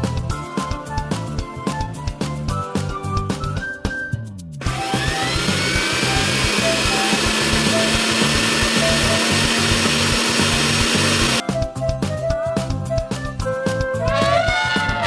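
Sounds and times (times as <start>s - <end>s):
simple background tune: 0.0s - 15.0s.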